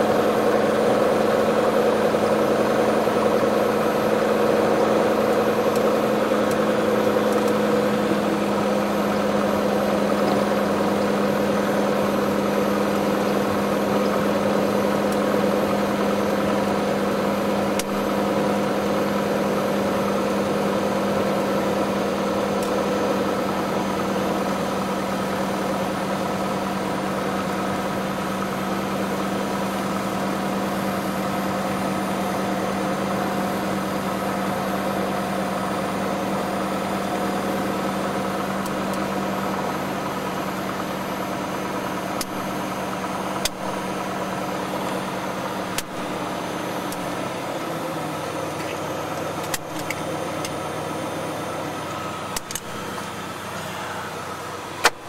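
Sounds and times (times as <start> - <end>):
aircraft engine droning: 0.0 - 55.0.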